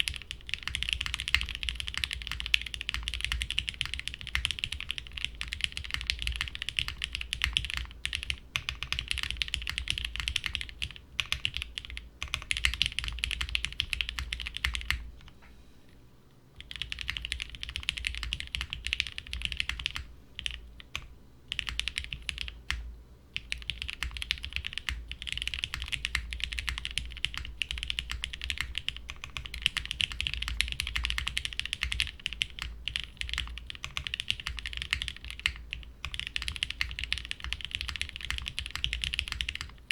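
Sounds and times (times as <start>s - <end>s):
mechanical keyboard typing: 0.0s - 15.3s, 16.6s - 22.8s, 23.4s - 39.8s.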